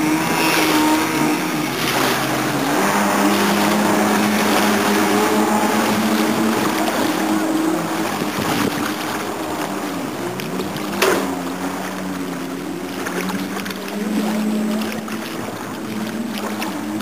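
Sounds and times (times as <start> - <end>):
two-stroke boat engine: 0.0 - 17.0.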